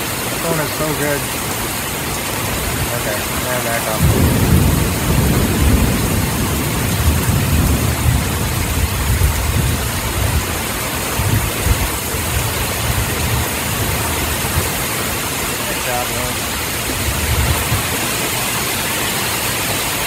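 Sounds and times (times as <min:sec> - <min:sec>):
torrential rain pouring: 0:00.0 - 0:20.0.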